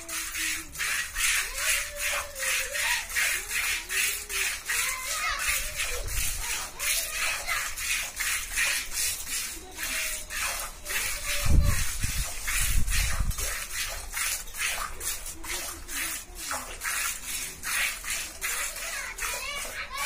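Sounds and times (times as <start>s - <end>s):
milk squirting into steel pail: 0.0s - 20.0s.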